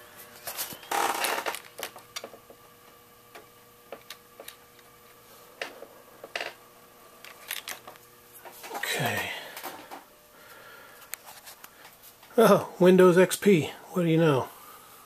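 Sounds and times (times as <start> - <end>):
computer fans humming: 0.0 - 15.0.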